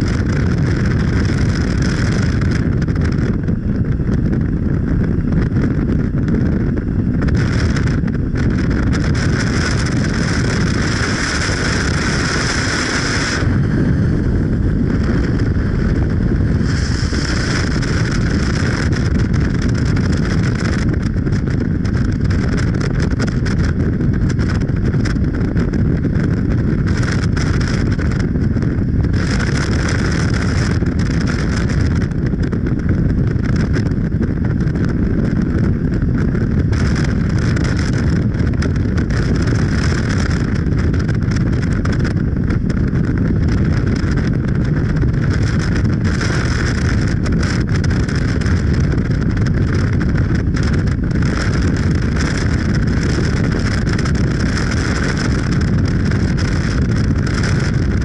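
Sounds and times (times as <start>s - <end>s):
moving vehicle rumble: 0.0s - 58.0s
wind noise: 0.0s - 58.0s.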